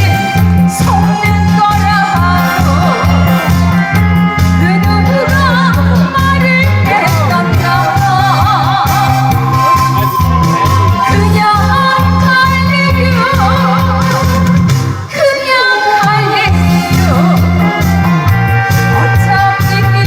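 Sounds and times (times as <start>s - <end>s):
pulsing bass beat: 0.0s - 15.1s, 16.2s - 20.0s
person singing: 0.0s - 20.0s
pop music through sound system: 0.0s - 20.0s.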